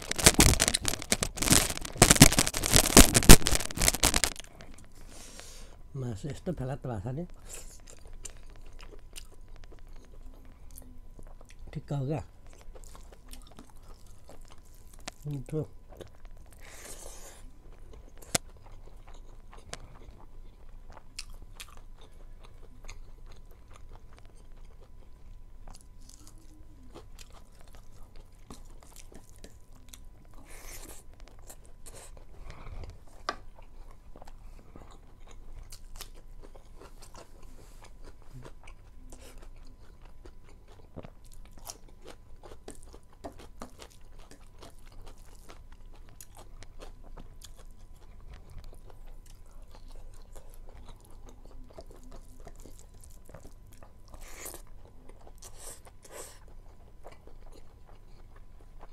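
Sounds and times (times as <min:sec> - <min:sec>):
chewing and crunching food: 0:00.0 - 0:58.9.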